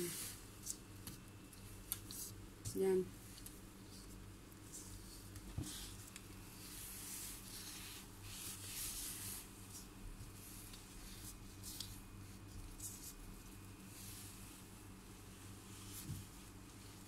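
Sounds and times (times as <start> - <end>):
gloved hands rustling dough: 0.0 - 17.0
steady low hum: 0.0 - 17.0.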